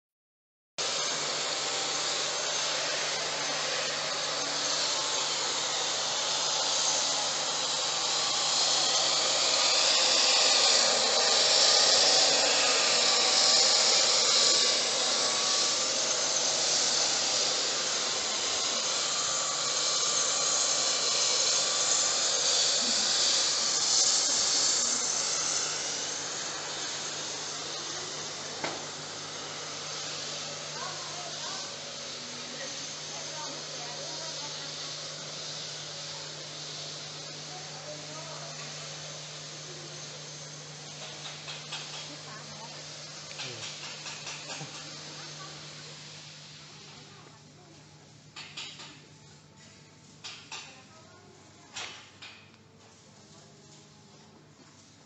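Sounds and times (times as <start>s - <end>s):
belt sander on wood: 0.8s - 49.1s.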